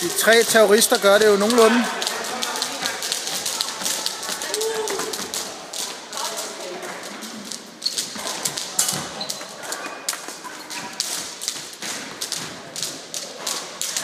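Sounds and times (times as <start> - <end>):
sports shoes tapping on hall floor: 0.0 - 14.0.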